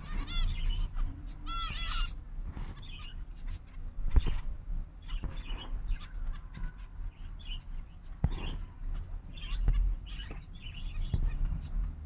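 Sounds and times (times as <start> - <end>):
finches calling with nasal beeps: 0.0 - 11.8.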